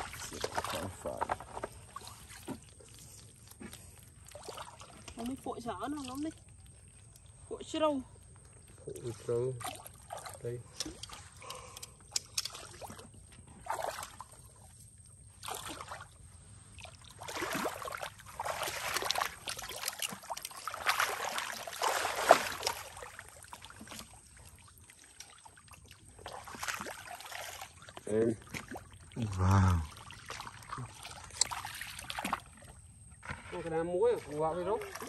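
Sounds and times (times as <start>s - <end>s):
muddy water sloshing and splashing: 0.0s - 35.0s.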